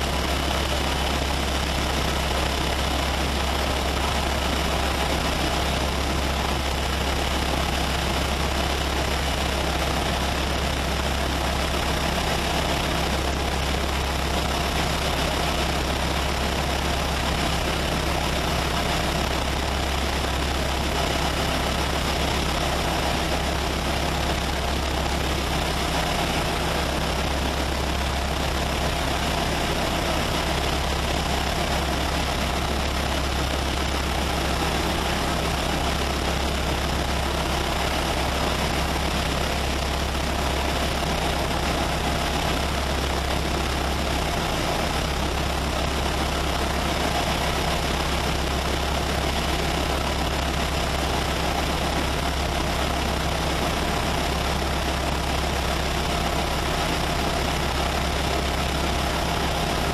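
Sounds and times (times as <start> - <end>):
propeller engine drone: 0.0 - 59.9.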